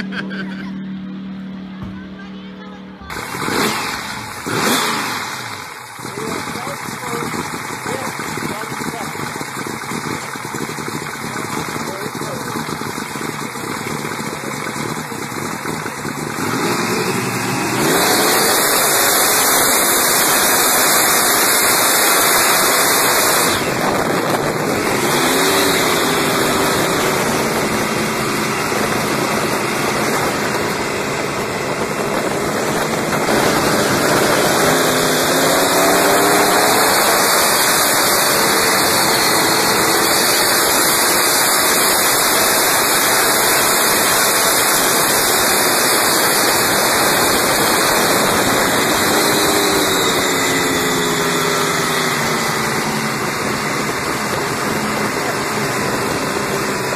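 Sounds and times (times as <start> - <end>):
supercharged boat engine: 0.0 - 56.9.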